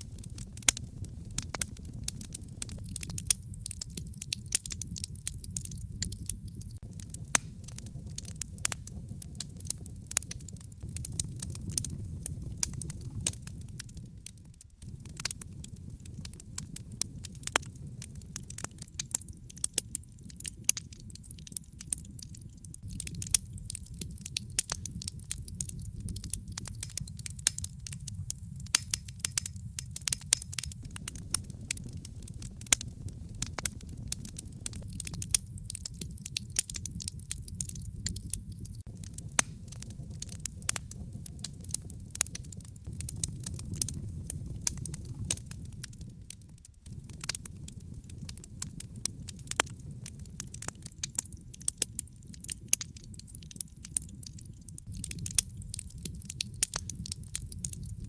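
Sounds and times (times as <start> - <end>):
logs crackling and popping: 0.0 - 58.0
low rumble of flame: 0.0 - 58.0.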